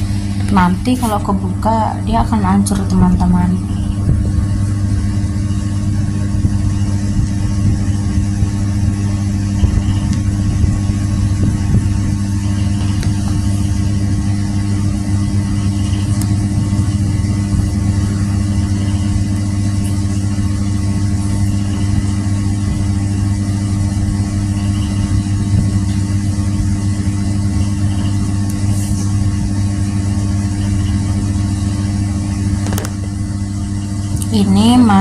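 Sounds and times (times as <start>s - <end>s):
engine droning: 0.0s - 35.0s.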